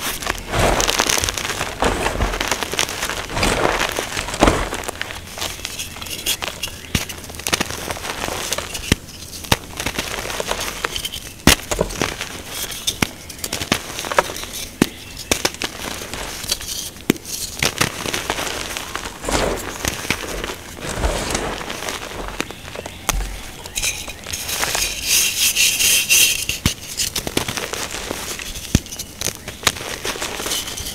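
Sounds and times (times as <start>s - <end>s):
chalk gritty crumbling: 0.0s - 30.9s.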